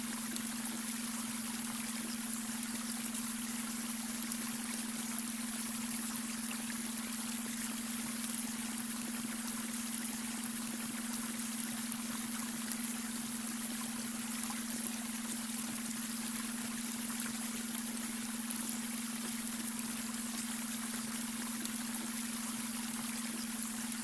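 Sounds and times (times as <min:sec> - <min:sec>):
brook water trickling: 0:00.0 - 0:24.0.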